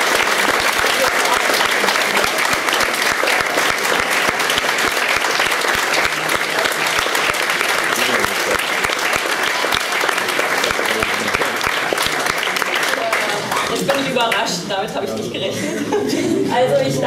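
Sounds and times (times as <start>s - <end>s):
crowd applauding: 0.0s - 14.5s.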